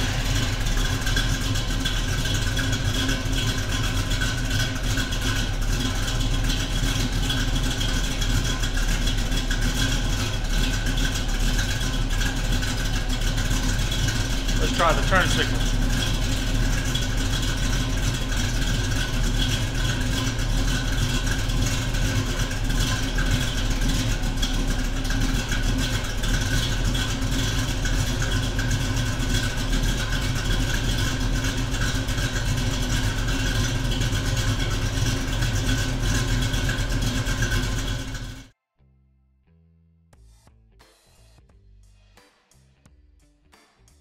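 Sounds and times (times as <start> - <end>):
car engine idling: 0.0 - 38.5.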